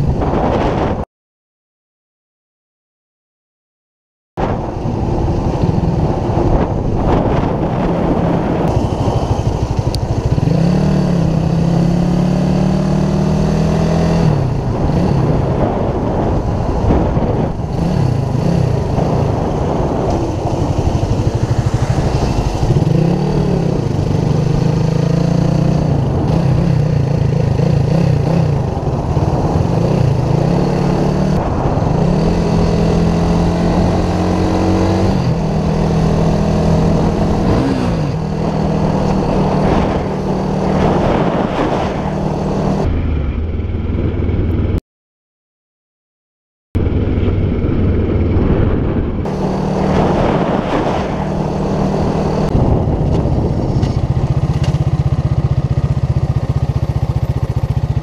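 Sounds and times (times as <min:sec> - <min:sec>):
wind and road noise: 0:00.0 - 0:01.0, 0:04.4 - 0:44.8, 0:46.8 - 0:58.0
motorcycle engine accelerating: 0:04.4 - 0:44.8, 0:46.8 - 0:58.0.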